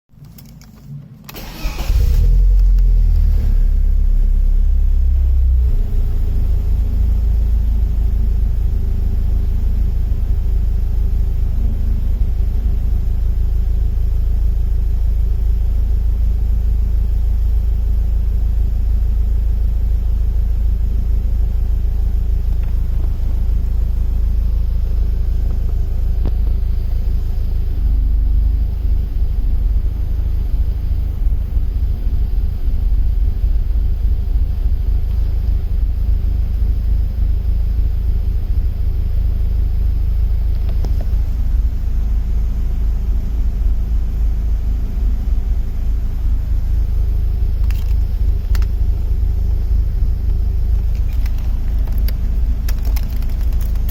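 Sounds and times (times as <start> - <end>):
car engine starting and idling roughly: 0.2 - 53.9.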